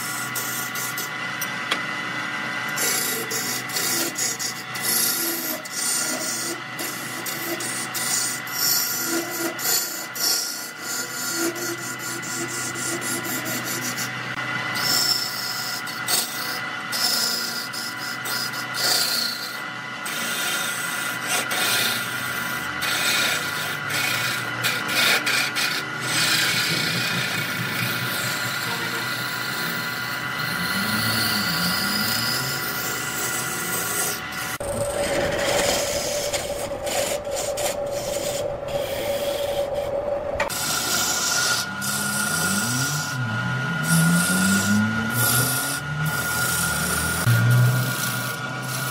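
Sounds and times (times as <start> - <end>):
wood lathe whine: 0.0 - 48.9
gouge scraping wood: 2.7 - 14.1, 14.8 - 39.4, 40.4 - 48.9.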